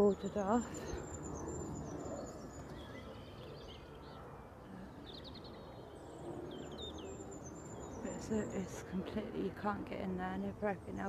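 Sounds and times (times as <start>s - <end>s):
faint birds chirping: 0.0s - 11.0s
low outdoor background noise: 0.0s - 11.0s.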